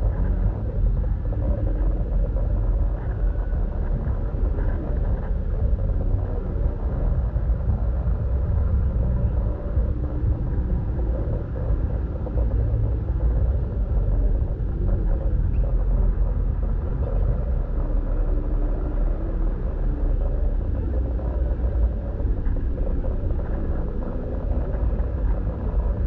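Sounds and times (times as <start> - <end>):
crowd noise rumble: 0.0 - 26.0.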